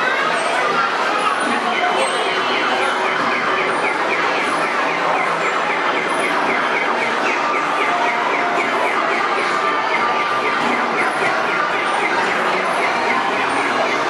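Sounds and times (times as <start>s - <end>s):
steady loud din: 0.0s - 14.0s
warbling electronic siren tone: 1.5s - 14.0s.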